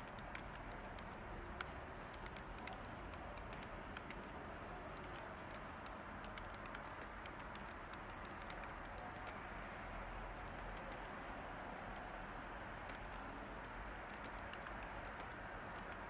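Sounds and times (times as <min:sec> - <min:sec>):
keyboard typing: 0:00.0 - 0:09.4, 0:10.4 - 0:11.2, 0:12.8 - 0:16.0
white noise hiss: 0:00.0 - 0:16.0.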